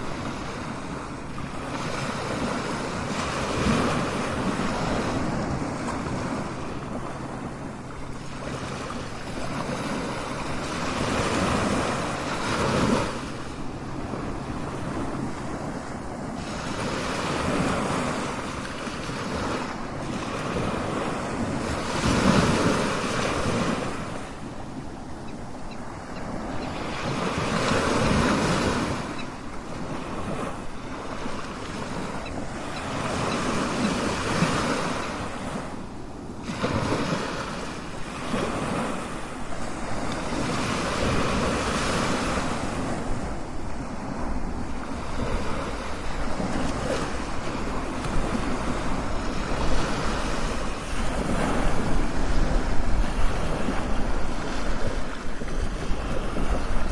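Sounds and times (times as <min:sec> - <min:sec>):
ocean waves breaking on shore: 0:00.0 - 0:56.9.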